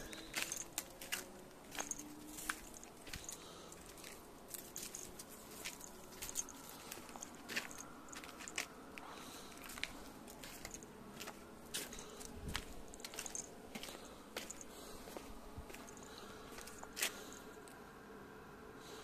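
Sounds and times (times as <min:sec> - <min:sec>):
dry leaves crackling: 0:00.0 - 0:17.4.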